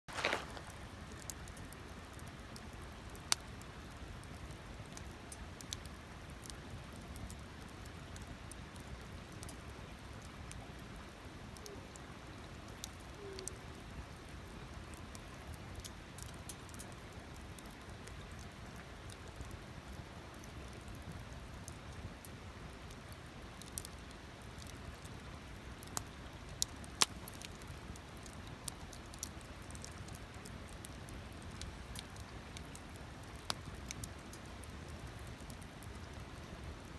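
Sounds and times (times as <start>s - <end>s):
campfire crackling: 0.1s - 36.9s.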